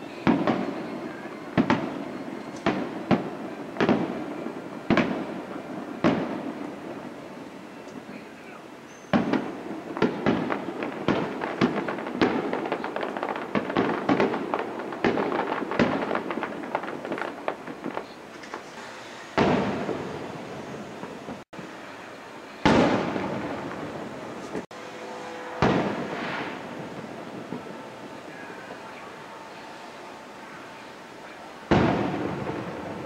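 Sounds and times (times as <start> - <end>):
fireworks rapid bangs: 0.0 - 7.2, 8.0 - 21.4, 22.6 - 24.7, 25.3 - 33.0
fireworks loud booms: 0.0 - 33.0.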